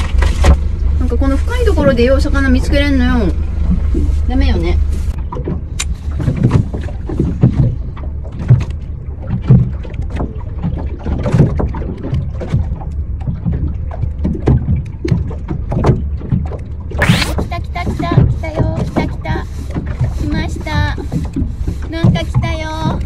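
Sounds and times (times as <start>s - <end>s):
water splashing against boat hull: 3.8s - 23.0s.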